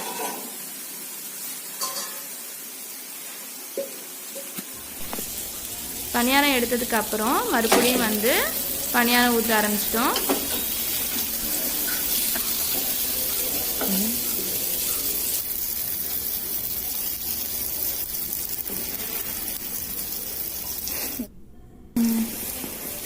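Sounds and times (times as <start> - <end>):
batter sizzling in a hot pan: 0.0 - 21.3.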